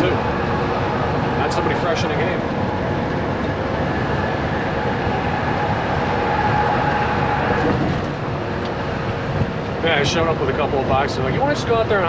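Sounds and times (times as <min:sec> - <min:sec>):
road noise: 0:00.0 - 0:12.0
truck diesel engine rumble: 0:00.0 - 0:12.0.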